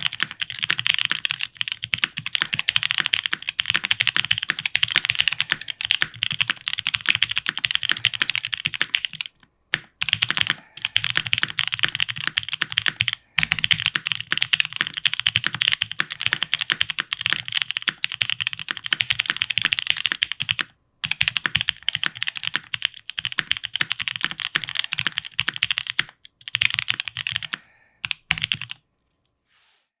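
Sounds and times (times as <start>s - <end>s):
fast typing on mechanical keyboard: 0.0s - 28.8s.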